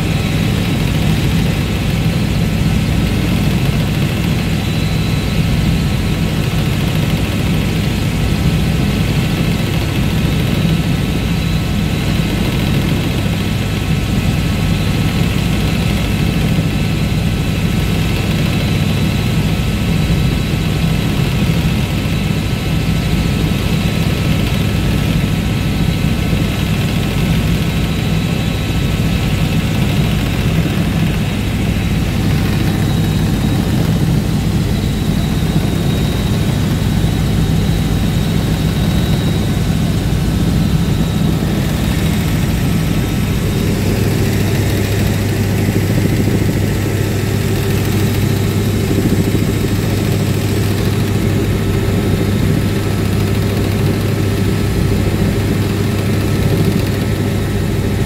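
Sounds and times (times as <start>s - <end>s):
helicopter rotor and turbine drone: 0.0s - 58.0s.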